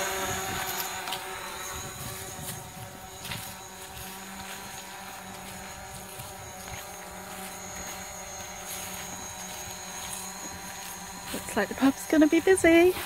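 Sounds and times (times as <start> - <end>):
drone propellers buzzing: 0.0 - 13.0.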